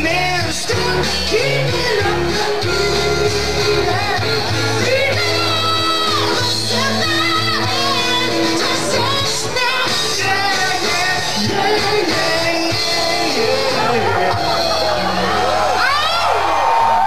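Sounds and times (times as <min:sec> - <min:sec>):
high sliding lead vocal: 0:00.0 - 0:16.0
rock band playing live: 0:00.0 - 0:16.8.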